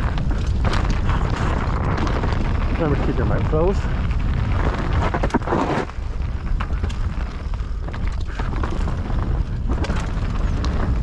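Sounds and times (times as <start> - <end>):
bike rattling over bumps: 0.0 - 11.0
tyres clicking on gravel: 0.0 - 11.0
wind rumble on microphone: 0.0 - 11.0.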